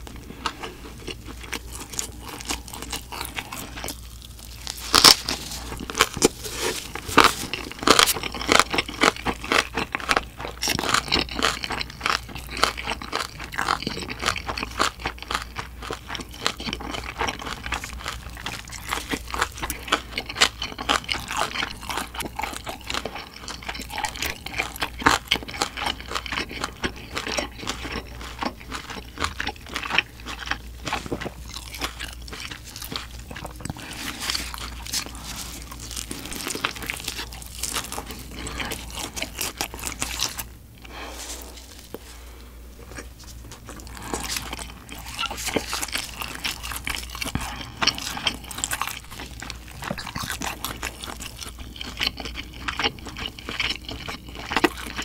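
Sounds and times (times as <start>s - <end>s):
biting and chewing: 0.0s - 42.1s, 42.8s - 55.0s.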